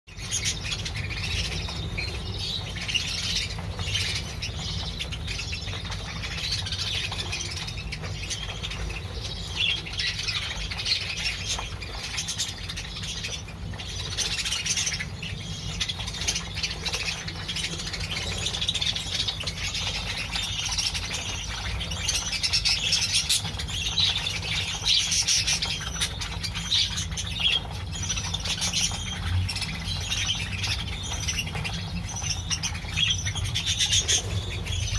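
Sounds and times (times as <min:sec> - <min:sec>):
budgerigars chattering and squawking: 0:00.1 - 0:34.9
steady low hum: 0:00.2 - 0:34.9.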